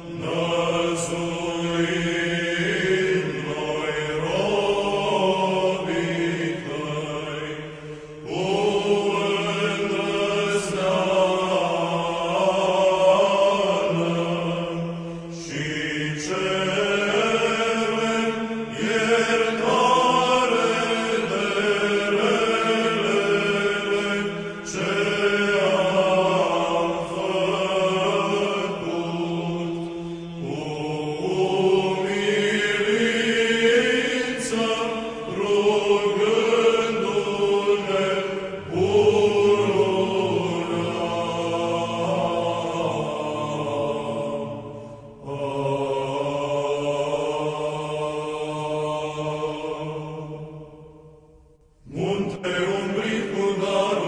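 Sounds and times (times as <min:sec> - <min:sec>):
chant with long held notes: 0:00.0 - 0:54.0.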